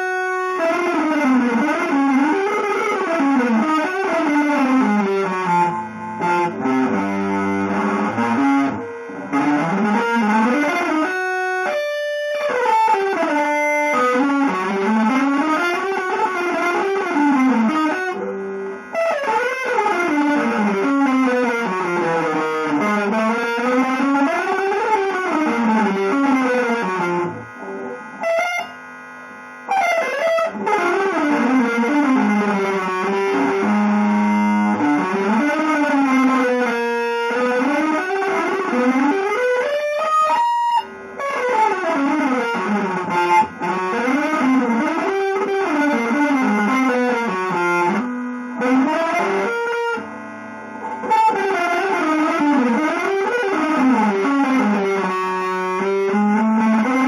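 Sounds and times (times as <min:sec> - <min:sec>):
electric guitar with effects: 0:00.0 - 0:57.0.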